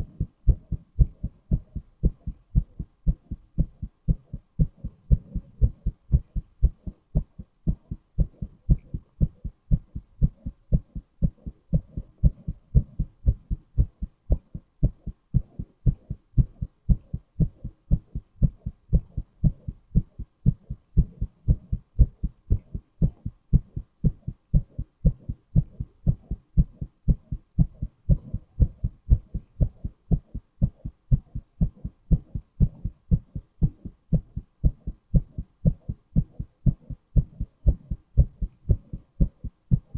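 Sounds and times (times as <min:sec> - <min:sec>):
heartbeat thumping: 0:00.0 - 0:39.9.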